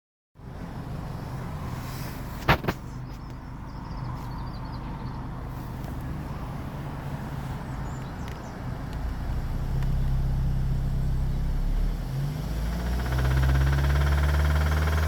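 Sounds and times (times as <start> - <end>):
car engine running at low revs: 0.4 - 15.0.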